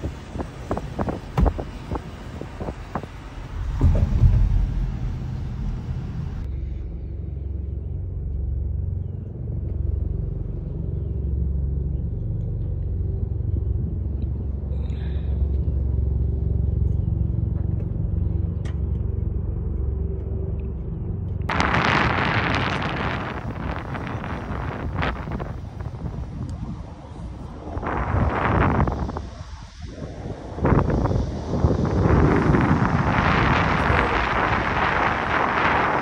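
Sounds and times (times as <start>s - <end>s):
car interior engine and tyre rumble: 0.0s - 29.8s.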